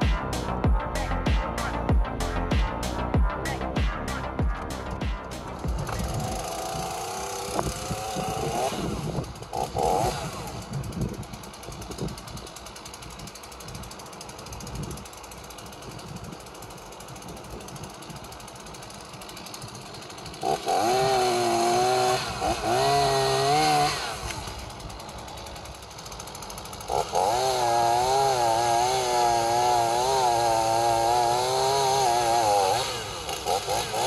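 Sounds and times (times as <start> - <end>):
chainsaw cutting branches: 0.0 - 34.0.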